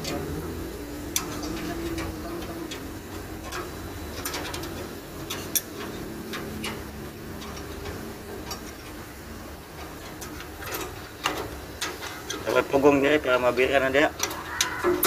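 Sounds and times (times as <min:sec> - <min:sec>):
spanner tapping metal grille: 0:00.0 - 0:15.0
steady low hum: 0:00.0 - 0:15.0.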